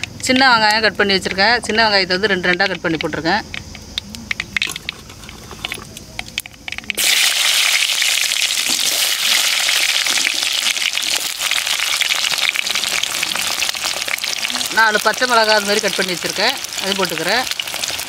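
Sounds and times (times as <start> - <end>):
oil sizzling: 0.0 - 18.0
seeds crackling in hot oil: 0.0 - 18.0.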